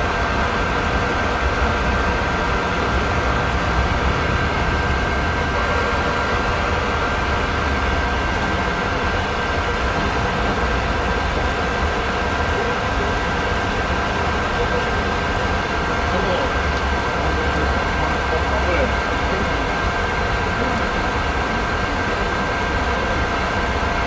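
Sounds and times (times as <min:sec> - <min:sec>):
cooking machine humming: 0:00.0 - 0:24.0.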